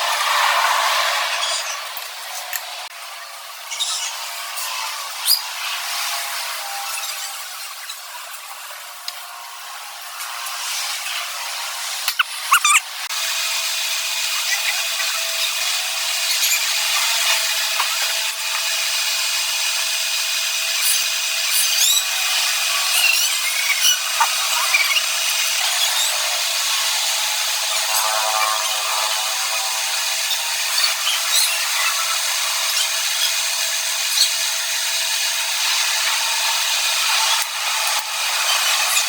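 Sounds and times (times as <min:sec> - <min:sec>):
lathe grinding metal: 0:00.0 - 0:07.8, 0:10.0 - 0:39.0.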